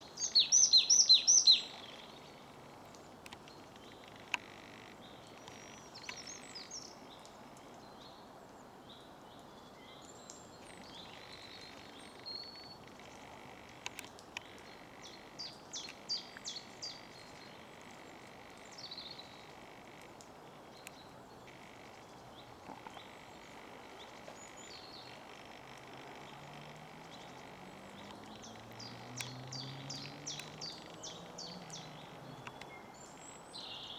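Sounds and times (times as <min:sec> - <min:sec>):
outdoor background noise: 0:00.0 - 0:33.9
wild birds singing and calling: 0:00.0 - 0:33.9.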